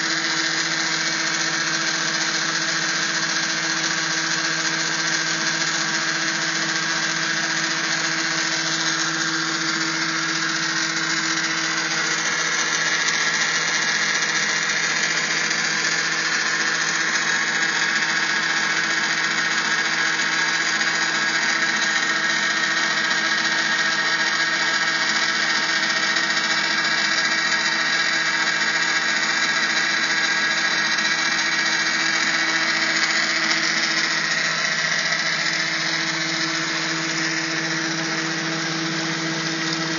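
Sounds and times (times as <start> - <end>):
electric motor pump humming: 0.0 - 39.9
water spraying from nozzles: 0.0 - 39.9.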